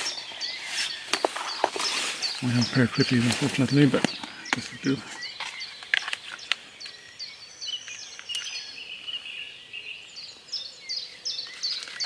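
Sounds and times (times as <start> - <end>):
bird warbling song: 0.0 - 12.0
songbirds chirping: 0.0 - 12.0.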